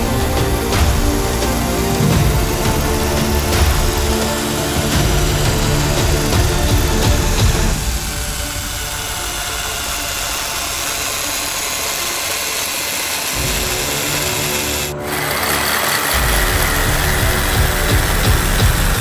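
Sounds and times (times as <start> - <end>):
electric motor whirring: 0.0 - 19.0.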